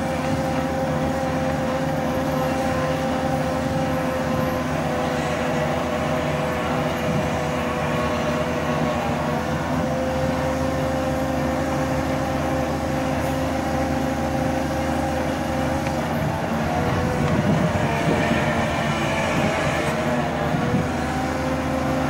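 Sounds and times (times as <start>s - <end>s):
excavator diesel engine drone: 0.0s - 22.0s
hydraulic whining tone: 0.0s - 22.0s.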